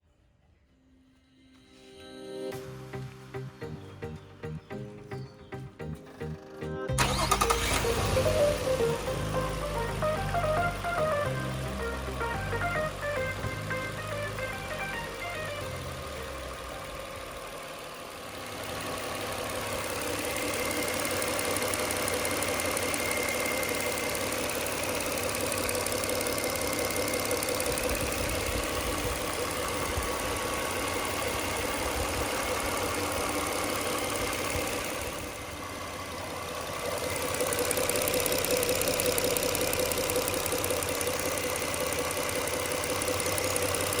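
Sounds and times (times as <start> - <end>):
car engine idling: 2.8 - 44.0.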